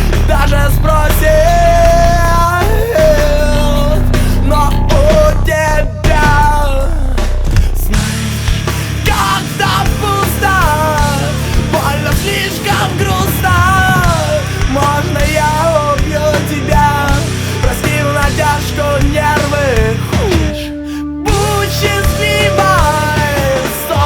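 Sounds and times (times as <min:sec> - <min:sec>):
loud heavy rock music: 0:00.0 - 0:24.0.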